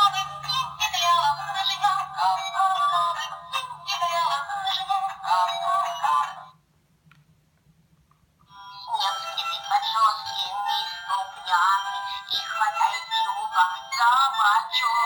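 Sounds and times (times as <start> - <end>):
tinny toy speaker melody: 0.0 - 6.5, 8.5 - 15.0.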